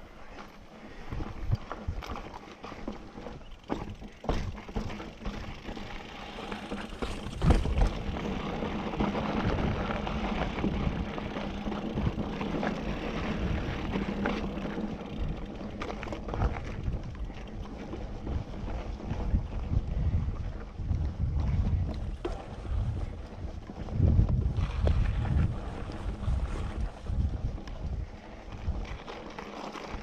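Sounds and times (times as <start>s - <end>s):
bike tyres rolling rumble: 0.0s - 30.0s
bike knocks and rattles: 1.1s - 27.3s.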